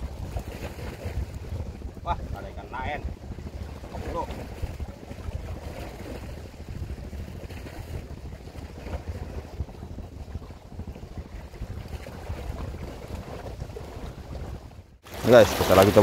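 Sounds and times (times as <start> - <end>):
sea washing against breakwater: 0.0 - 16.0
wind buffeting microphone: 0.0 - 16.0.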